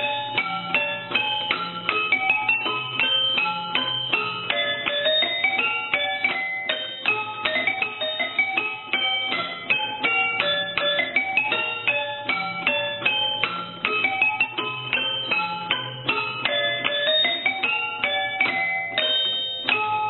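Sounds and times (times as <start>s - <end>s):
barrel organ playing struck notes: 0.0s - 20.0s.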